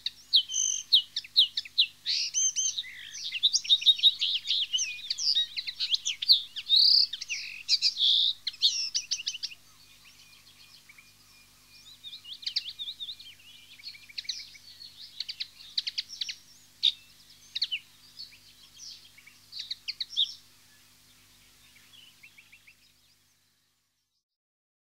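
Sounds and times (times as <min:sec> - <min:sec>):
bird twittering chirps: 0:00.0 - 0:24.2.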